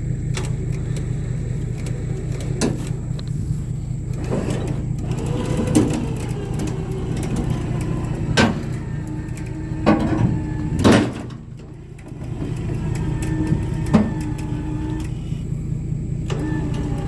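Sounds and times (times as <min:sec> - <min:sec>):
engine running: 0:00.0 - 0:17.0
winch whining: 0:00.0 - 0:17.0.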